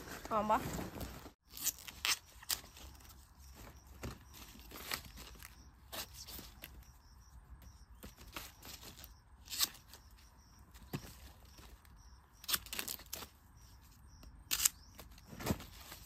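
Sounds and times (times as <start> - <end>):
faint high chirp: 2.1 - 16.0.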